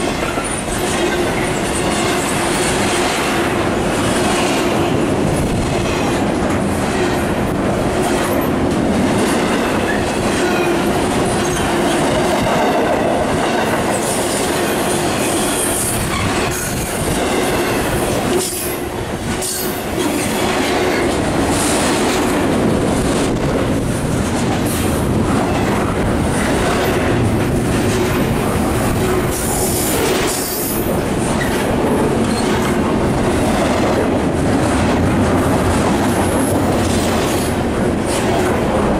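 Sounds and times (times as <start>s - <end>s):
train wheels clattering over rails: 0.0s - 38.9s.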